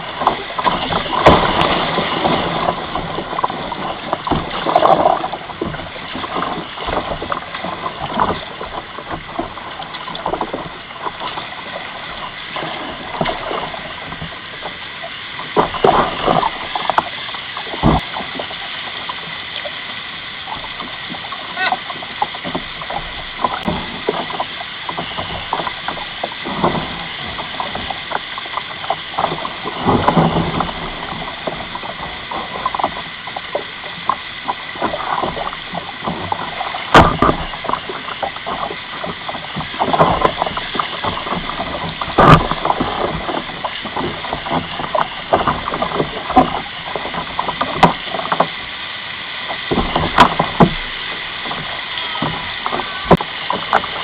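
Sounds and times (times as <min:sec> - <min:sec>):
whitewater rapids rushing: 0:00.0 - 0:14.7, 0:20.1 - 0:54.0
sharp knocks and splashes: 0:00.0 - 0:54.0.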